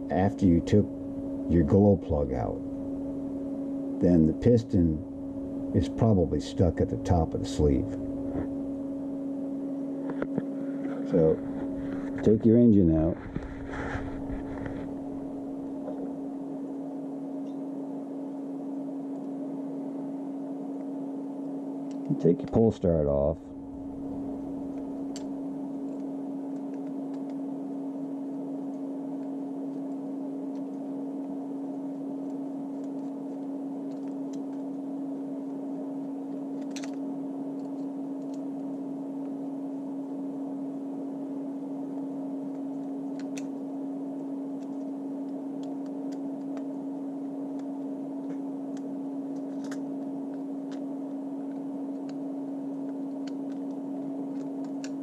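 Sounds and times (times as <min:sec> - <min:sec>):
steady one-tone hum: 0:00.0 - 0:55.0.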